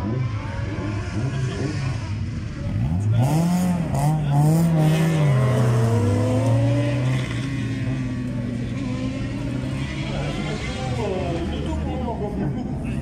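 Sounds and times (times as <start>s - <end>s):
racing car engine revving: 0.0s - 12.7s.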